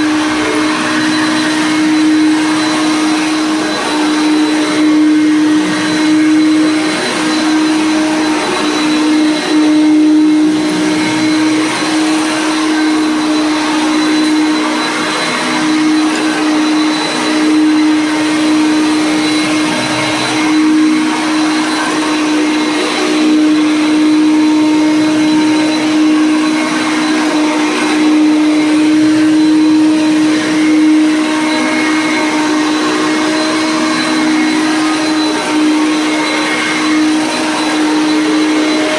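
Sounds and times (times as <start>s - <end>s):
upright vacuum running on carpet: 0.0s - 38.9s.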